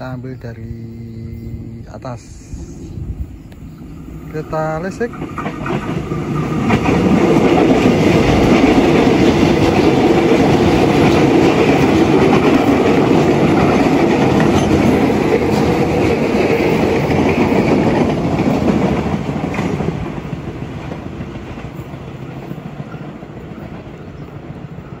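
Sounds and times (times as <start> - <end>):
train wheels on rails: 1.2 - 25.0.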